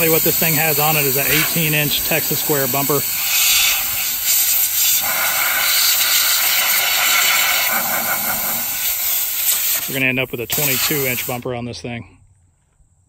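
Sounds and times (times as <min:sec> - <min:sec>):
compressed air hissing: 0:00.0 - 0:11.5.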